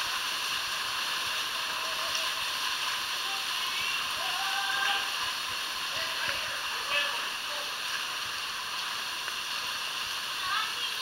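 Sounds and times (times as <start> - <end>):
stream running through rocks: 0.0 - 11.0
waterfall rushing: 0.0 - 11.0.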